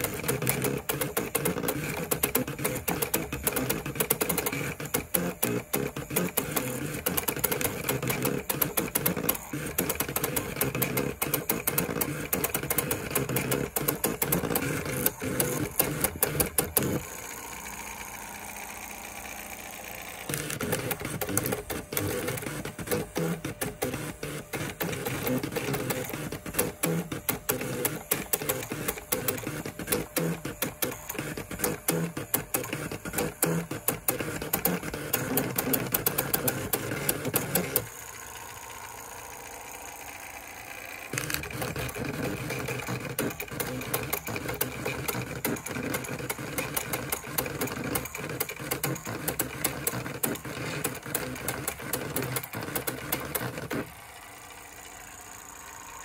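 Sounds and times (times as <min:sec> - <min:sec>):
plotter motors buzzing and ticking: 0:00.0 - 0:56.0
steady machine hum: 0:00.0 - 0:56.0.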